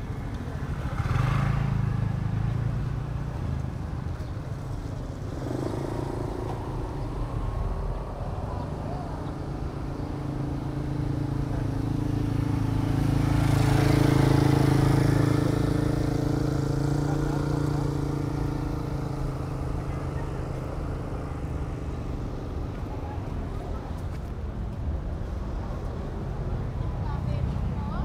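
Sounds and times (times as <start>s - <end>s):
motorcycle passing close: 0.0s - 24.0s
motorcycle engines running: 0.0s - 28.0s.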